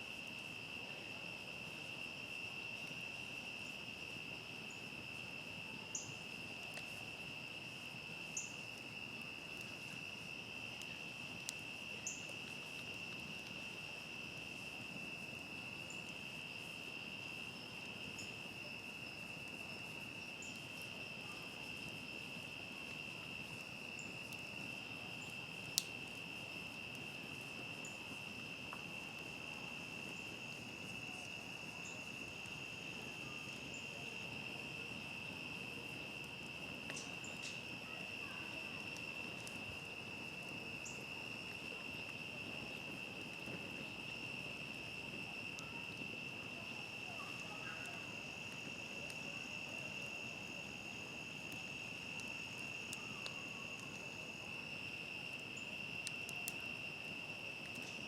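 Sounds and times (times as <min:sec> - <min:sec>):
crickets trilling: 0:00.0 - 0:58.0
campfire popping: 0:02.8 - 0:58.0.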